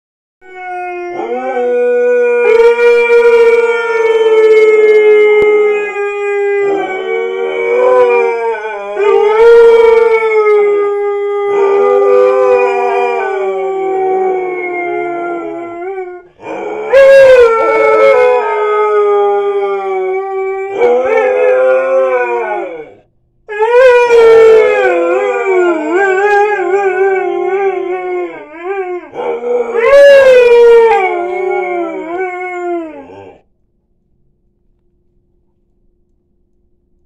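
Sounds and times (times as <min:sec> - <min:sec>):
dogs howling: 0:00.4 - 0:33.4.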